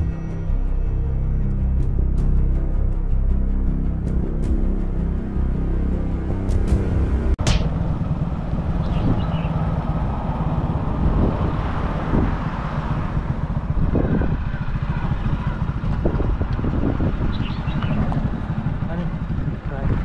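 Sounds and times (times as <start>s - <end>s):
vehicle engine rumble: 0.0s - 20.0s.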